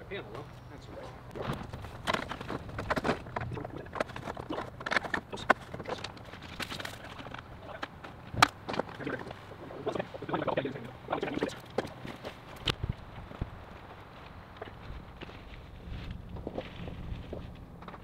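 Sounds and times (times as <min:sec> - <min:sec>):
cable scraping and rustling: 0:01.3 - 0:18.0.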